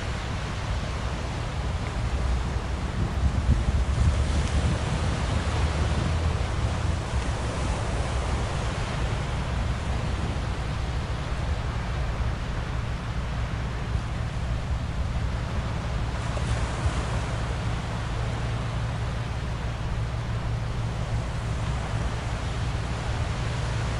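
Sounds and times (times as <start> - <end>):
rushing wind and water: 0.0 - 23.9
ship engine low rumble: 0.0 - 23.9.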